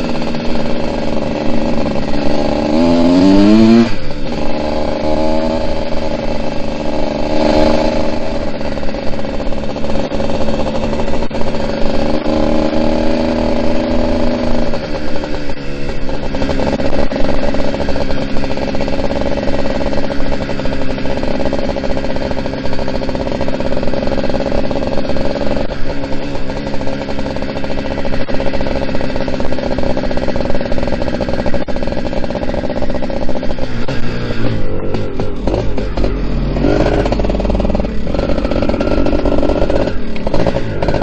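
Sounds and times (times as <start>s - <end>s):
two-stroke dirt bike engine: 0.0s - 41.0s.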